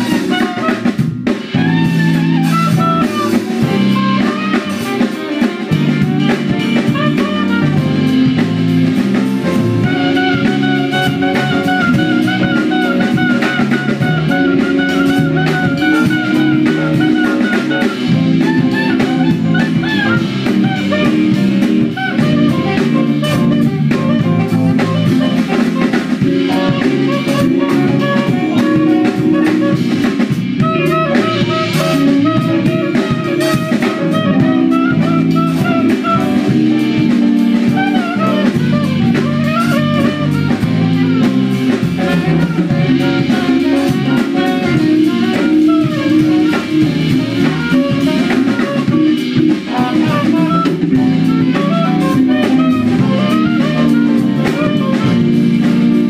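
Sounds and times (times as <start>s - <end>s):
drum kit: 0.0s - 56.0s
electric guitar: 0.0s - 56.0s
reed instrument melody: 0.0s - 56.0s
walking bass line: 0.0s - 56.0s.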